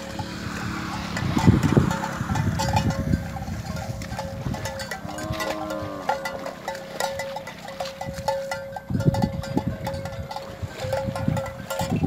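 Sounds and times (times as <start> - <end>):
animal bells clinking: 0.0 - 12.0.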